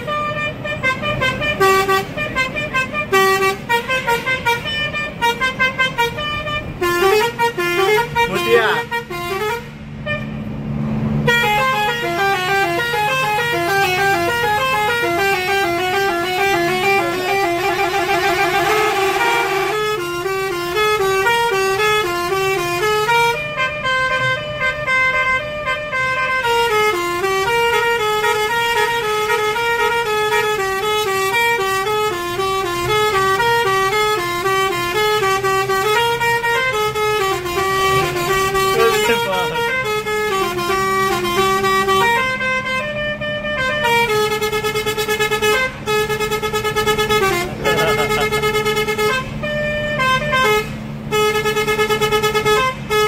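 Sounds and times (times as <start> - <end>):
melodic bus air horn: 0.0 - 10.6, 11.2 - 53.0
bus engine hum: 0.0 - 53.0.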